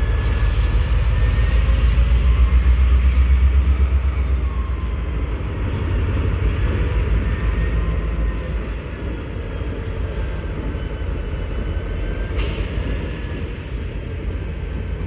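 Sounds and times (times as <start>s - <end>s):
high wheel squeal: 0.0s - 14.9s
railcars rolling rumble: 0.0s - 15.0s.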